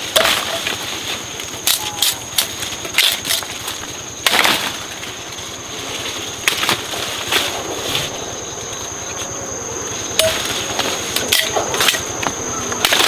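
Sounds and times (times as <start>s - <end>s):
high-pitched insect whine: 0.0s - 13.0s.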